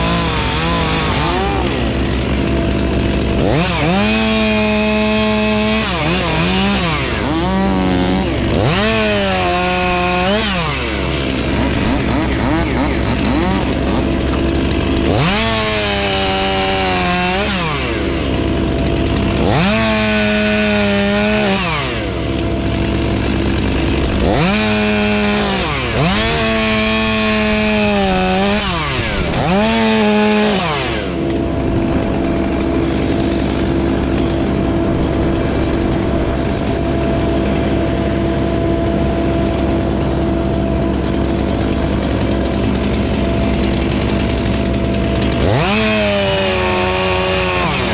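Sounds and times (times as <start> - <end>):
chainsaw revving: 0.0 - 47.9
steady engine drone: 0.0 - 47.9.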